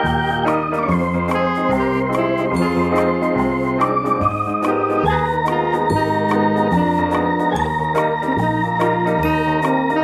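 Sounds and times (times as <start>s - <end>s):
electronic organ music with beat: 0.0s - 10.0s.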